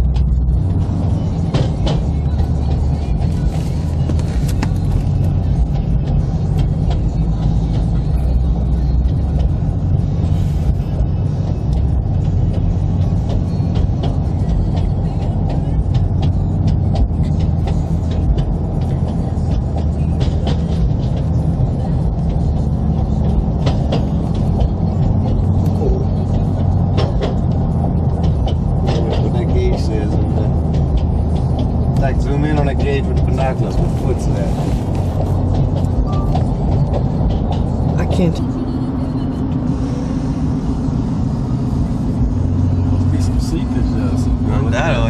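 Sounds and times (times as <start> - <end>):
car cabin rumble: 0.0 - 45.0.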